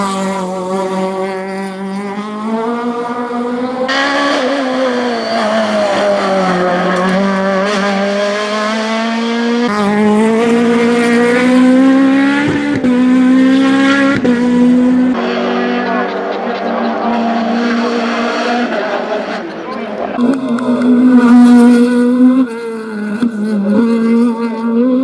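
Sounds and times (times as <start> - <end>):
rally car engine at high revs: 0.0 - 25.0.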